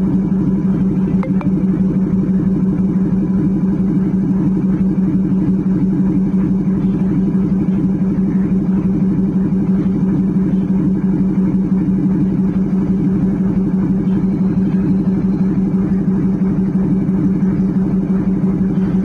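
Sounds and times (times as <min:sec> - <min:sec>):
locomotive engine drone: 0:00.0 - 0:19.0.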